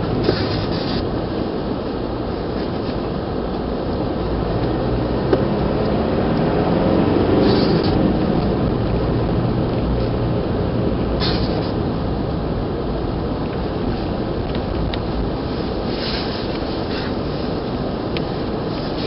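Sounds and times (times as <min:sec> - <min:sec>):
car engine and road drone: 0:00.0 - 0:19.0.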